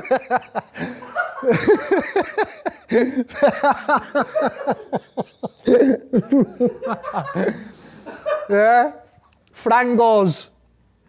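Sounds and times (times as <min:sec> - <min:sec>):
man laughing hard: 0:00.0 - 0:09.0.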